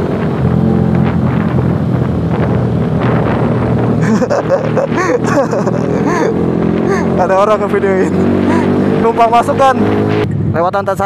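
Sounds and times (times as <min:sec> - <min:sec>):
motorcycle engine cruising: 0:00.0 - 0:10.7
wind noise on microphone: 0:00.0 - 0:11.0.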